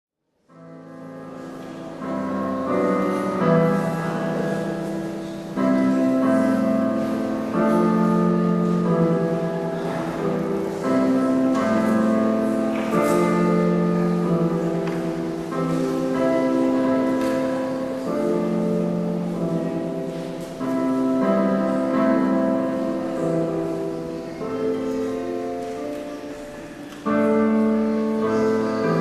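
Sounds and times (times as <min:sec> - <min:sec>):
slow piano chords: 0:00.4 - 0:29.0.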